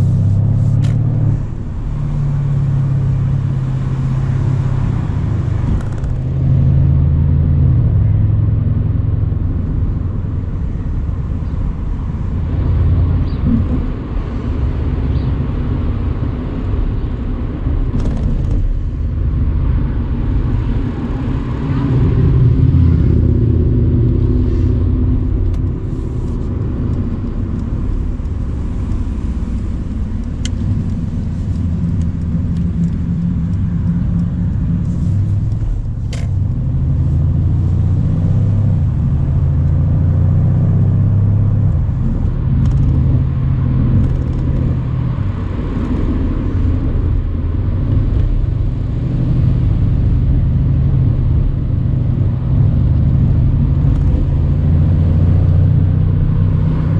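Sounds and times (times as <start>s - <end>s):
deep car engine cruising: 0.0s - 56.9s
tyre and road noise: 0.0s - 56.9s.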